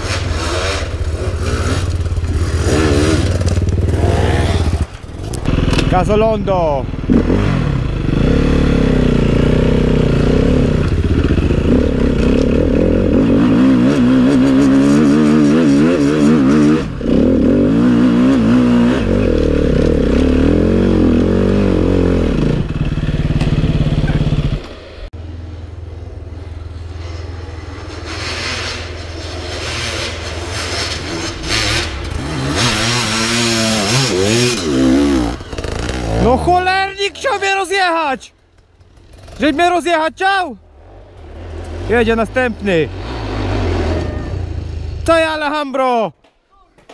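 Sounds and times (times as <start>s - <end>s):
dirt bike engine revving: 0.0s - 25.1s, 26.6s - 38.1s, 38.8s - 45.5s
another dirt bike engine: 0.0s - 45.3s.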